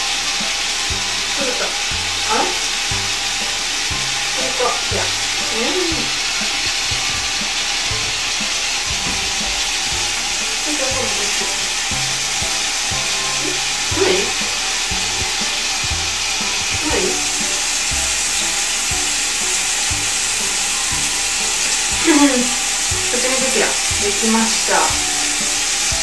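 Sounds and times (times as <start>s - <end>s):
shower water spraying: 0.0s - 26.0s.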